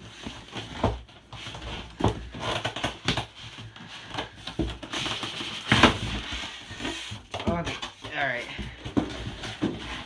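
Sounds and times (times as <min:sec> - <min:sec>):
styrofoam and cardboard scraping: 0:00.0 - 0:10.0.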